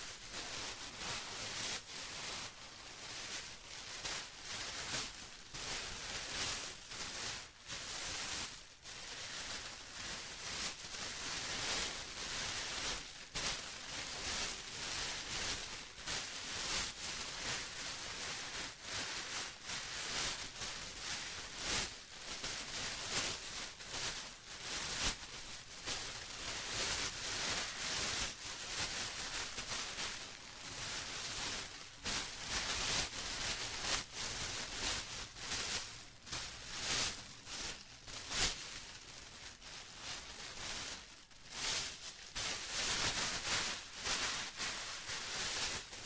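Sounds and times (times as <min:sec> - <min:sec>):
plastic rustling and crinkling: 0:00.0 - 0:46.0.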